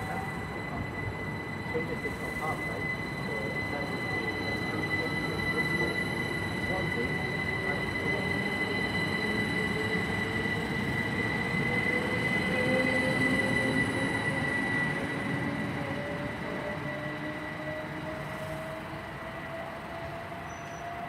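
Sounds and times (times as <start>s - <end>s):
electric train motors whining: 0.0s - 21.0s
train running-gear rumble: 0.0s - 21.0s.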